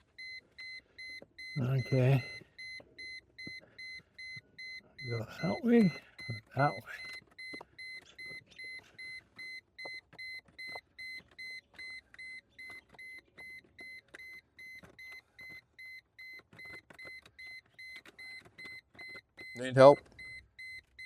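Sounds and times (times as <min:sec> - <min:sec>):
electronic warning chime beeping: 0:00.2 - 0:21.0.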